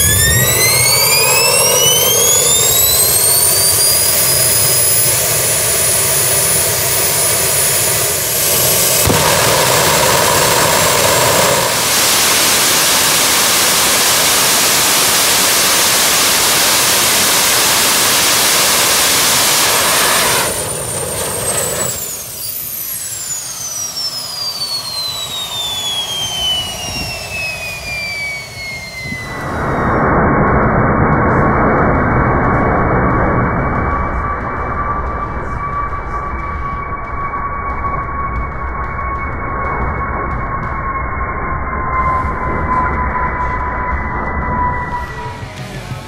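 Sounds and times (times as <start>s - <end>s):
jet engine with afterburner: 0.0s - 46.0s.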